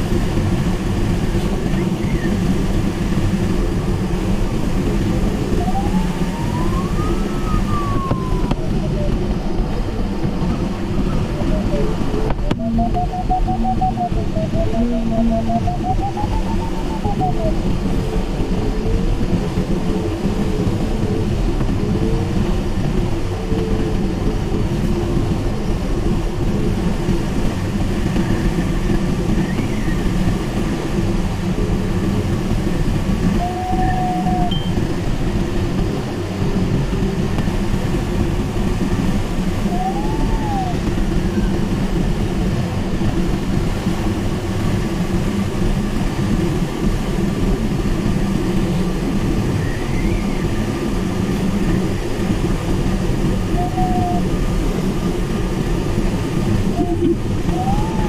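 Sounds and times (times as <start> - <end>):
airflow rushing over glider: 0.0 - 58.0.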